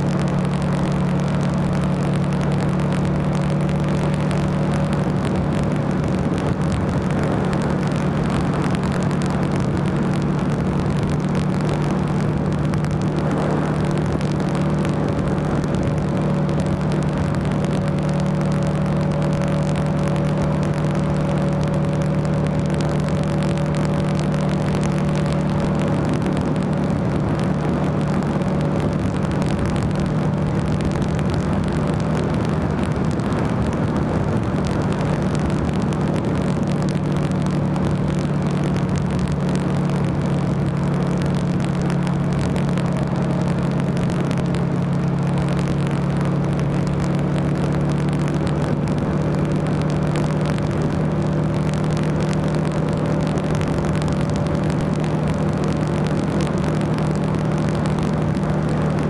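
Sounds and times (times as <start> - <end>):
motorcycle engine cruising: 0.0 - 59.0
road noise: 0.0 - 59.0
wind noise: 0.0 - 59.0.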